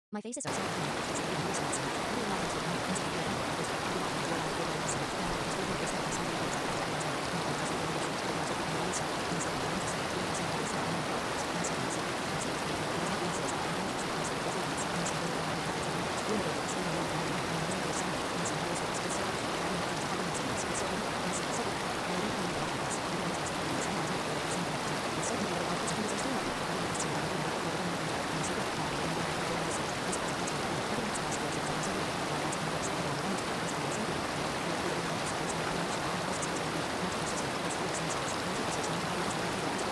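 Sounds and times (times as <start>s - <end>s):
rain-like water hiss: 0.5s - 39.9s.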